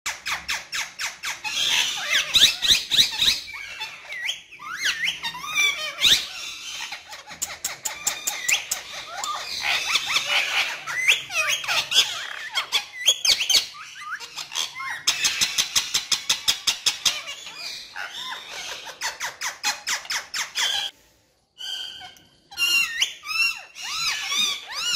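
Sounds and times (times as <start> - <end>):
parakeets chattering and whistling: 0.1 - 21.0, 21.6 - 24.9
parakeets screeching: 0.1 - 21.0, 21.6 - 24.9.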